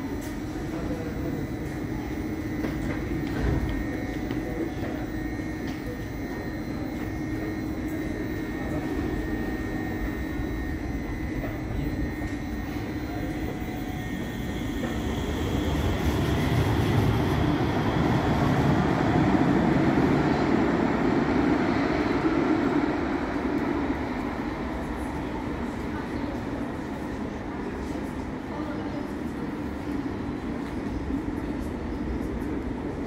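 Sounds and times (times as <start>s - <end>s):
tram humming: 0.0s - 33.0s
tram rumble and motor whine: 0.0s - 33.0s.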